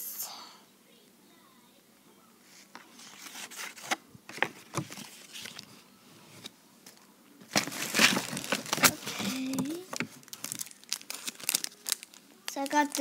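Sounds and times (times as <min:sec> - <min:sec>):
paper and package rustling: 0:02.6 - 0:13.0.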